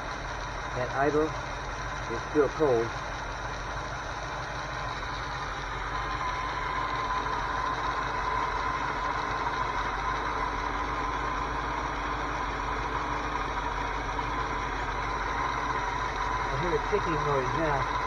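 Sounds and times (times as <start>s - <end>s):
car engine idling: 0.0s - 18.0s
fast regular engine ticking: 0.0s - 18.0s
steady engine whine: 0.0s - 18.0s.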